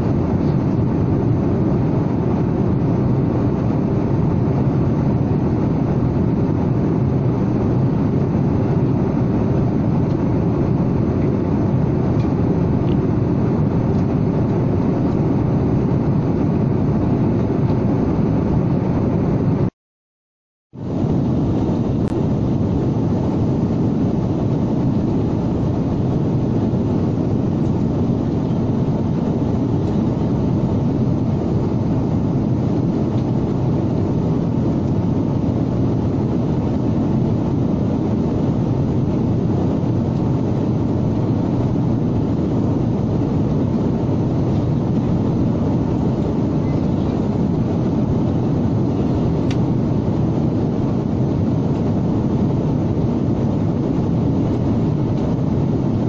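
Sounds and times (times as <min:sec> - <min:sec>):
airliner cabin engine and airflow noise: 0:00.0 - 0:19.7, 0:20.8 - 0:56.0.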